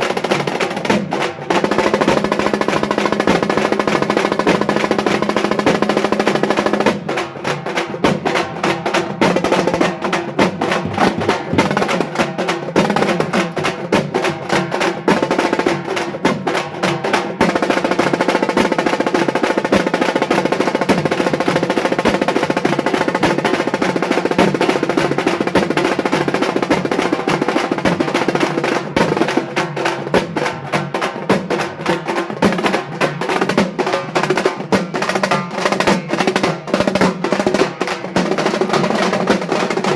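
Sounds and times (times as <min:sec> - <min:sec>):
frame drums beaten with sticks: 0:00.0 - 0:39.9.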